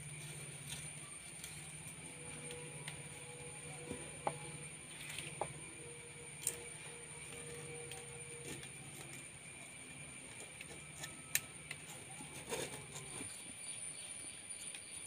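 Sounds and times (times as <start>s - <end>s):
low hum: 0.0s - 14.4s
high-pitched whine: 0.0s - 14.5s.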